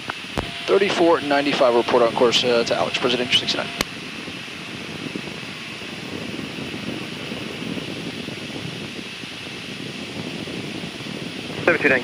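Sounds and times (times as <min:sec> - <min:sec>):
jet cockpit airflow rushing: 0:00.0 - 0:12.0.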